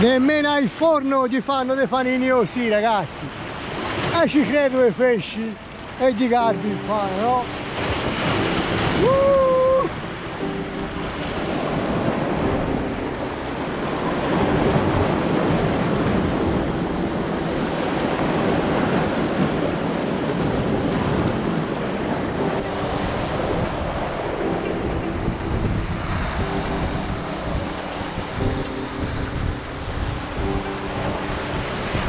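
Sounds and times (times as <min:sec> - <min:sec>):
sea waves breaking on rocks: 0:00.0 - 0:12.6, 0:13.3 - 0:24.6, 0:25.2 - 0:28.4.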